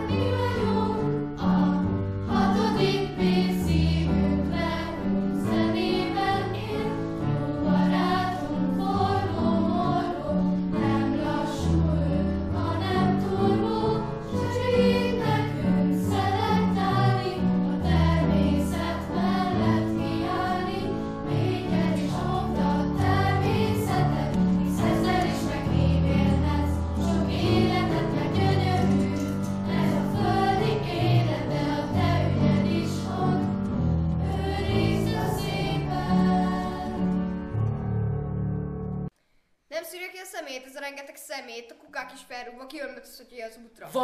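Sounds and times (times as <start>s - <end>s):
voices singing in chorus: 0.0s - 37.4s.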